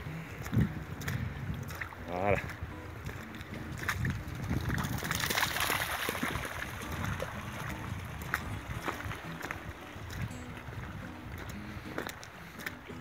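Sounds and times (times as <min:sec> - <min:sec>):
wind rumbling on microphone: 0:00.0 - 0:13.0
dog feet splashing in water: 0:00.4 - 0:13.0.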